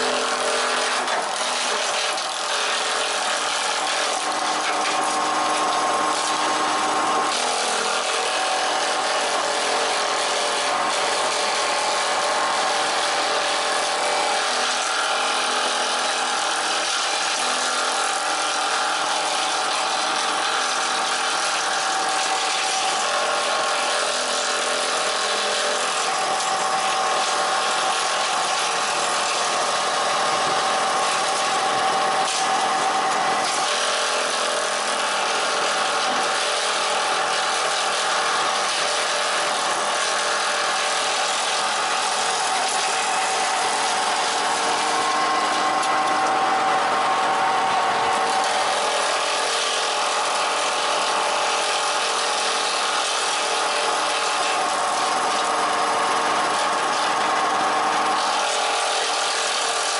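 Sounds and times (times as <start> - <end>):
electric motors running: 0.0 - 59.9.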